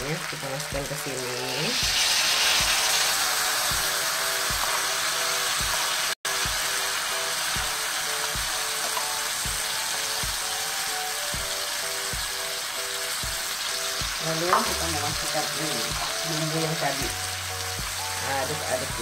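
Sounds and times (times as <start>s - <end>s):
background music with steady beat: 0.0s - 19.0s
shrimp sizzling in a wok: 0.0s - 19.0s.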